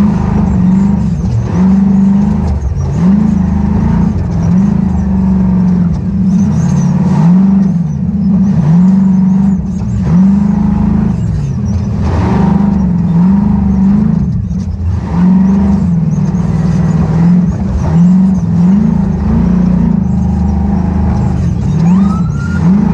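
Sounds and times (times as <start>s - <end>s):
race car engine revving: 0.0s - 22.9s.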